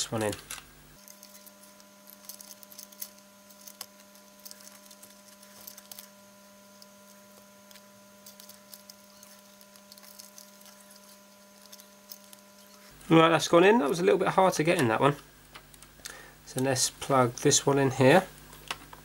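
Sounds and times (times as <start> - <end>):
cables rustling: 0.0 - 19.0
steady low hum: 0.0 - 19.0.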